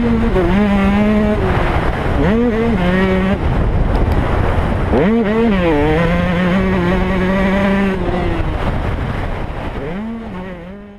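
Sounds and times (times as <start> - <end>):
motorcycle engine revving: 0.0 - 10.9
wind buffeting microphone: 0.0 - 10.9.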